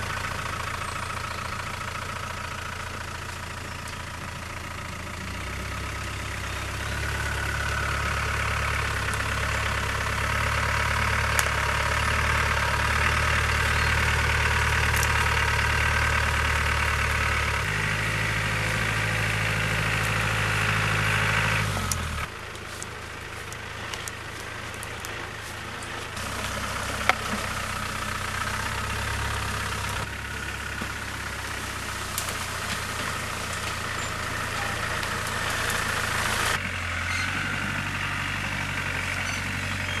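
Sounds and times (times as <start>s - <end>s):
diesel engine running at low revs: 0.0s - 40.0s.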